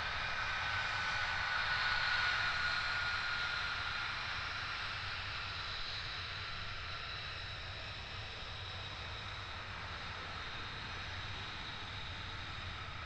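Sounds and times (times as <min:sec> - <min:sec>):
jet engine rush and whine: 0:00.0 - 0:13.0.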